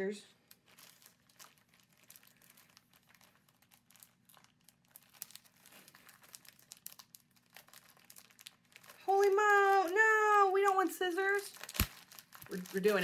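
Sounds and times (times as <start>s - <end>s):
packaging crackling: 0.4s - 13.0s.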